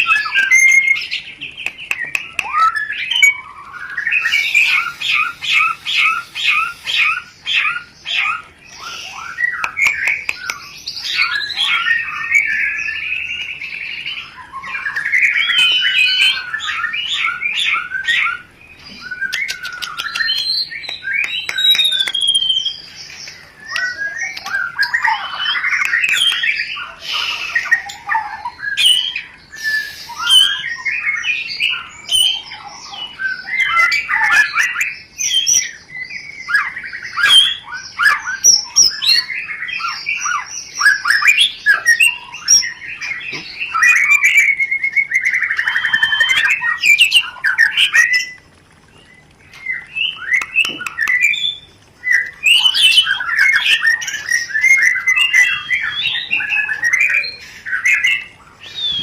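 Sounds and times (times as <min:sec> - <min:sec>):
bird chattering and trilling: 0:00.0 - 0:59.0
bird whistled glides: 0:02.2 - 0:18.4, 0:19.0 - 0:35.7, 0:36.4 - 0:48.4, 0:49.1 - 0:59.0.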